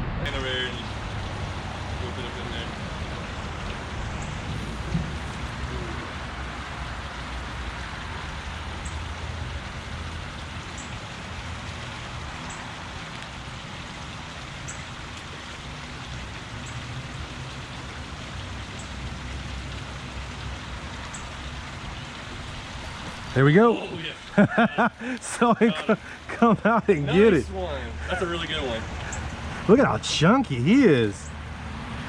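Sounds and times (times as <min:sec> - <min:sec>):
creek water flowing over rocks: 0:00.3 - 0:32.0.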